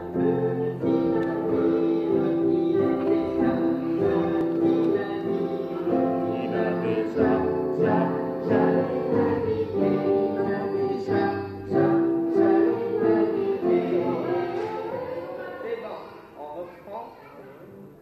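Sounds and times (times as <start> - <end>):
group singing in unison: 0.0 - 15.9.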